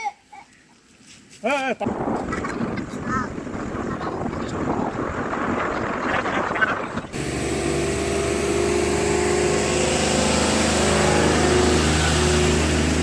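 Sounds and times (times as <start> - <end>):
road noise: 1.8 - 13.0
vehicle engine running: 1.9 - 13.0.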